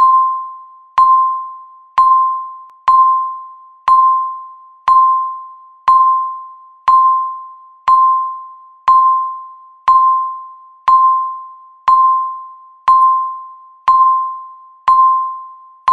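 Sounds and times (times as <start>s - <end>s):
countdown timer beeping: 1.0s - 15.9s.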